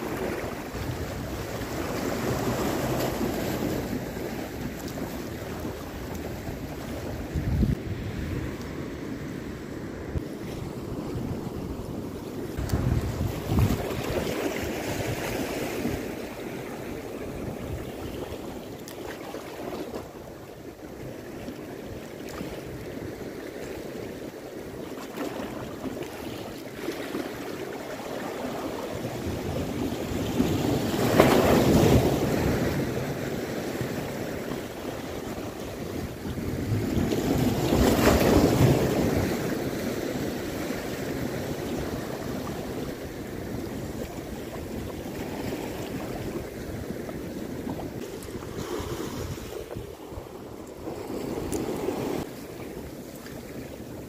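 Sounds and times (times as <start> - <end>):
waves breaking: 0.0 - 54.0
waves washing over rocks: 0.0 - 54.0.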